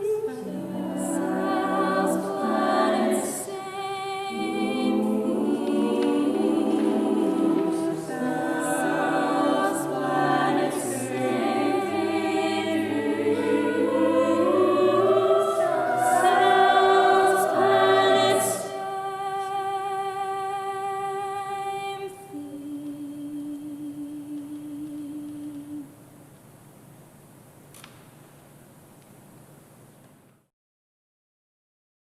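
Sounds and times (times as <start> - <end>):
mixed choir singing a cappella: 0.0 - 26.0.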